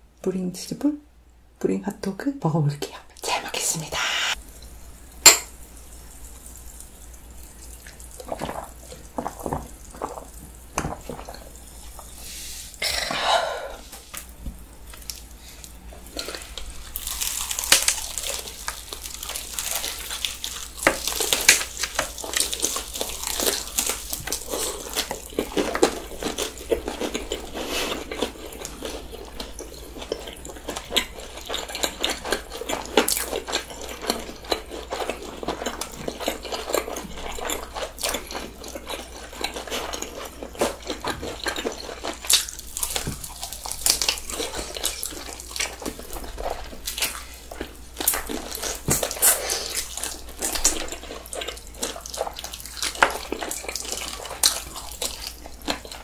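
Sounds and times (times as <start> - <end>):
crunching and chewing fried chicken: 4.4 - 12.2, 14.0 - 56.0.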